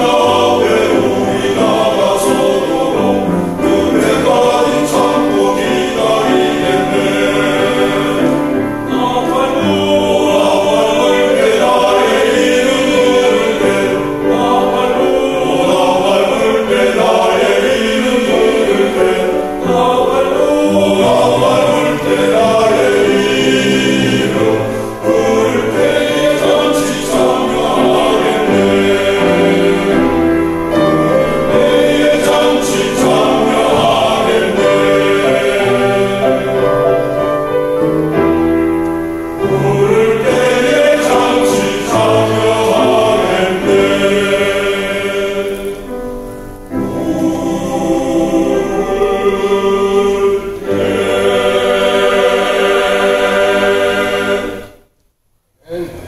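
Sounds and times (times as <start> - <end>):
vocal ensemble singing a hymn: 0.0 - 54.9.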